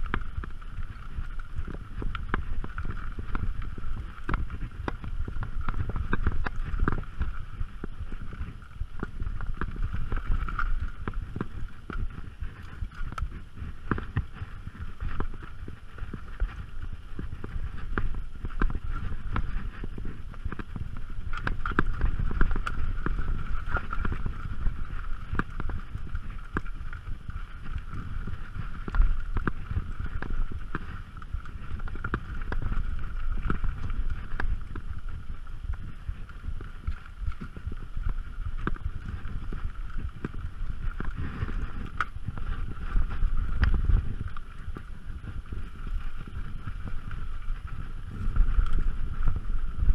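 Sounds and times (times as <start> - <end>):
bike rattling over rocks: 0.0 - 49.9
bike tyres rumbling on dirt: 0.0 - 49.9
wind on microphone: 0.0 - 49.9.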